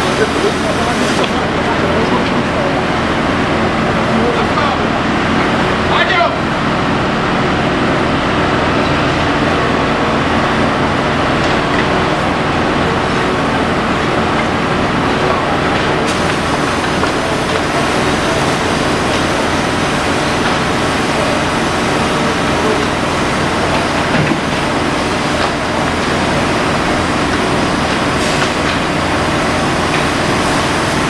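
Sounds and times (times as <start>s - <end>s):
fire engine diesel engines and pumps: 0.0s - 31.0s.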